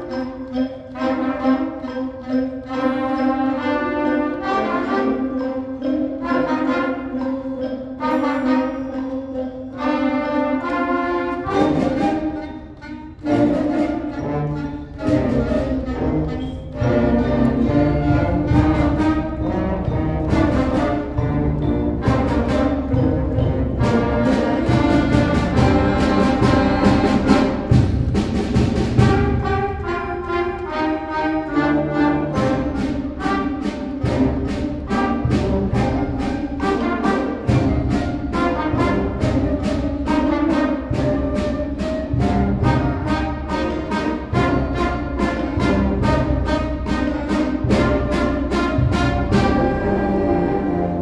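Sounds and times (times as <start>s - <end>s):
concert band playing: 0.0s - 51.0s.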